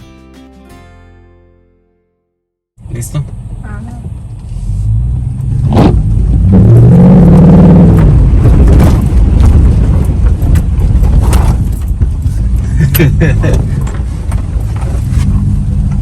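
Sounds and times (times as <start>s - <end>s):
motor vehicle engine accelerating: 2.8s - 16.0s.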